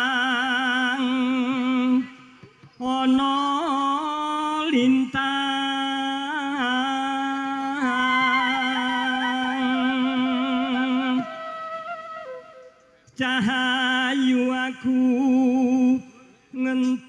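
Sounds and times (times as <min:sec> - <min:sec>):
person singing slow song: 0:00.0 - 0:17.0.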